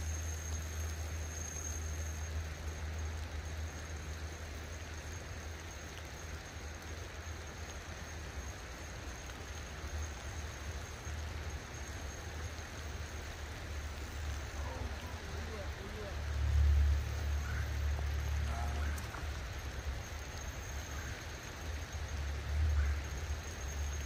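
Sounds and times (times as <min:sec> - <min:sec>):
light rain on water: 0:00.0 - 0:24.0.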